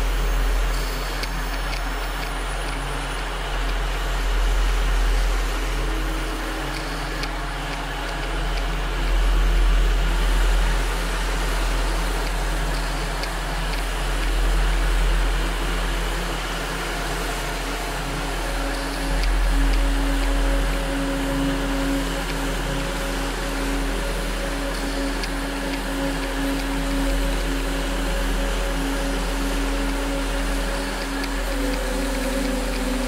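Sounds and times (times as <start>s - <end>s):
drone motors and propellers: 0.0s - 33.0s
low wind rumble: 0.0s - 33.0s.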